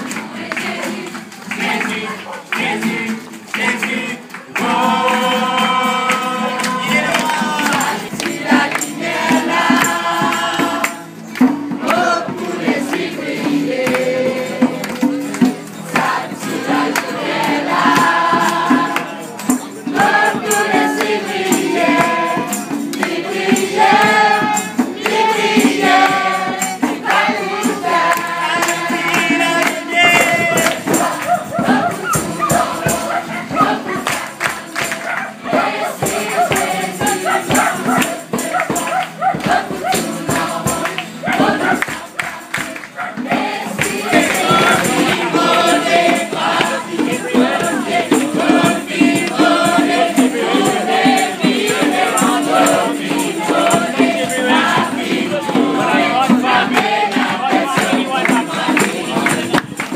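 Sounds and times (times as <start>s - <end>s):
claps or tambourine hits: 0.0s - 59.9s
group singing worship song: 0.0s - 59.9s
strummed acoustic guitars: 0.0s - 59.9s.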